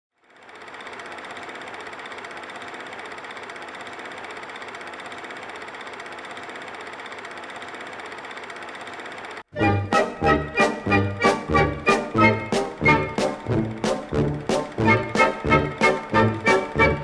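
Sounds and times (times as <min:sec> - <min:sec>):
film projector clattering: 0:00.2 - 0:09.5, 0:11.8 - 0:17.0.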